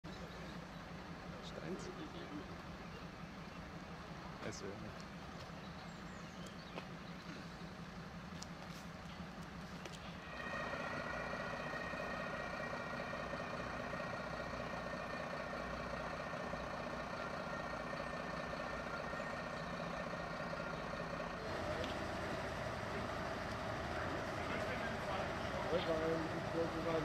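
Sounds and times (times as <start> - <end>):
fire truck diesel engine idling: 0.0 - 27.0
steady vehicle noise: 0.0 - 27.0.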